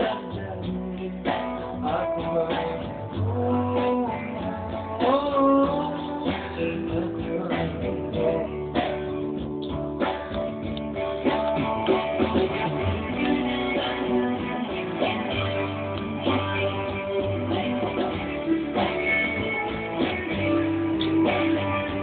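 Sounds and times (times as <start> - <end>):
melodic guitar lead with bent notes: 0.0 - 22.0
strummed guitar chords: 0.0 - 22.0.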